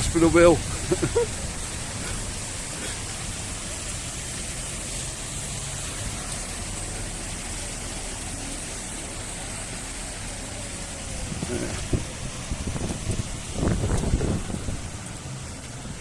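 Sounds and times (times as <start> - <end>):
rain and water noise: 0.0 - 16.0
traffic on wet road: 0.0 - 16.0.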